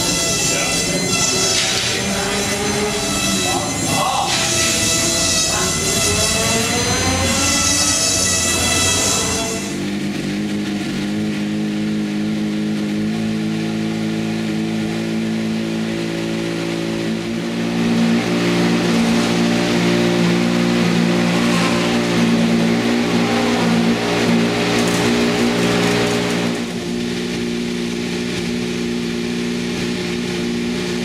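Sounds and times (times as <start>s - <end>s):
racing engine running: 0.0s - 31.0s.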